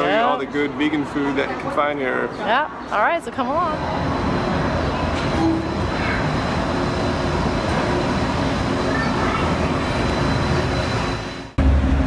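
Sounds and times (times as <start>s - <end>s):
monorail train running: 0.0s - 12.0s.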